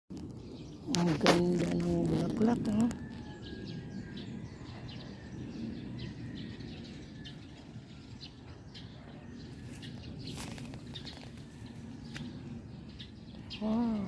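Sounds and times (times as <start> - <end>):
low outdoor background noise: 0.1 - 14.0
small birds chirping: 0.1 - 14.0.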